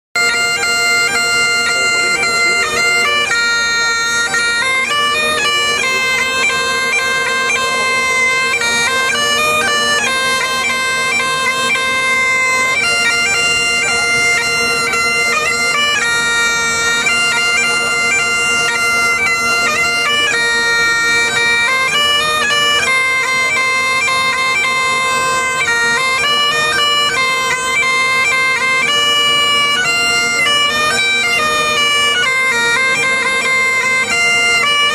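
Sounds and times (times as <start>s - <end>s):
bagpipe chanter melody: 0.2s - 34.9s
bagpipe drone: 0.2s - 34.9s.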